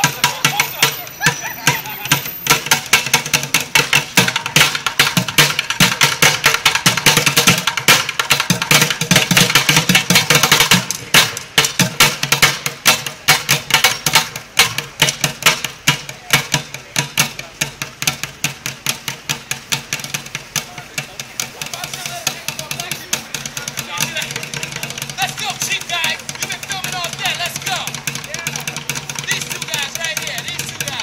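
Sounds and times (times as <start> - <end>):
drumsticks beating plastic buckets: 0.0 - 31.0.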